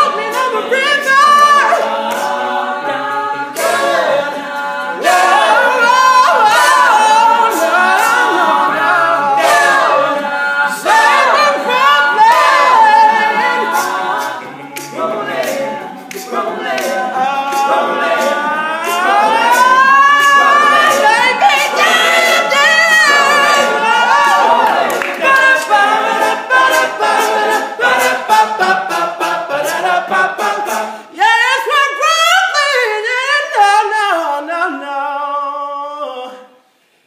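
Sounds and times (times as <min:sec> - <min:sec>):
male a cappella group singing: 0:00.0 - 0:36.8.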